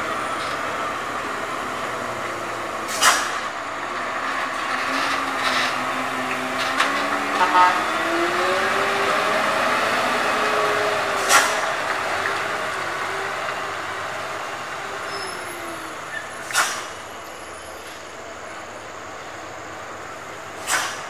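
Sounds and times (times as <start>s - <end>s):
diesel truck engine pulling uphill: 0.0s - 21.0s.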